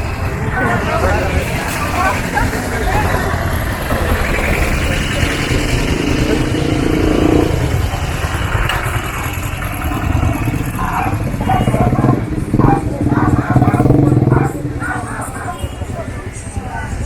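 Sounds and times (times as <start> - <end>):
street noise: 0.0 - 17.0
vehicle engine running: 0.0 - 17.0.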